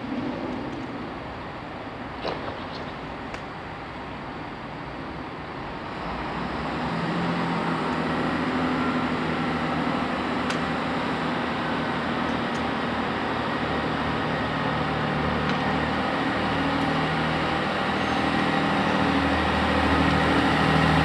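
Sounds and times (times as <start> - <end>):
diesel train engines droning: 0.0 - 21.0.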